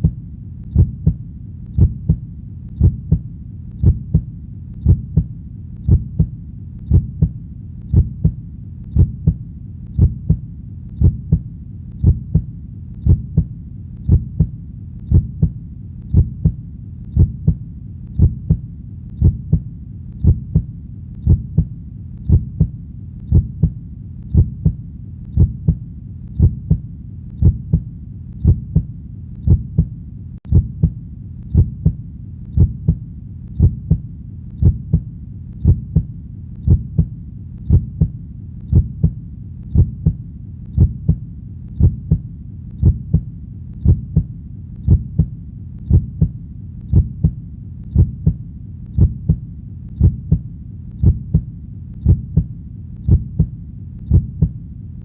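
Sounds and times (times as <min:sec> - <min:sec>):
heartbeat thumps: 0:00.0 - 0:54.7
low hum: 0:00.0 - 0:55.0.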